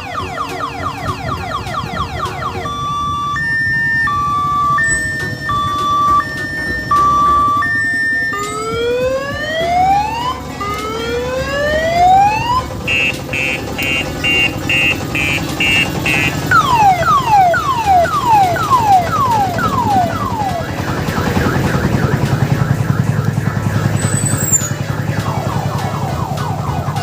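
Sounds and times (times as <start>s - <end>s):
diesel engine running: 0.0s - 27.0s
electronic multi-tone siren: 0.0s - 27.0s.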